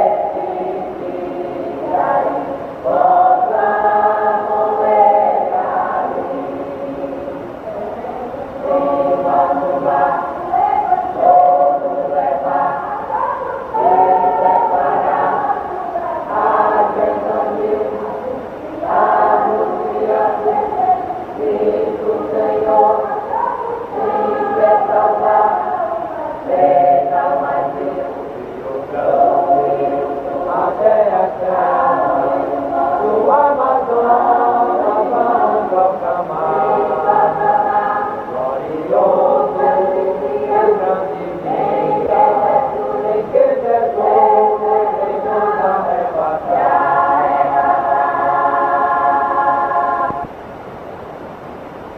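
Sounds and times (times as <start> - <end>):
choir singing a hymn: 0.0 - 50.3.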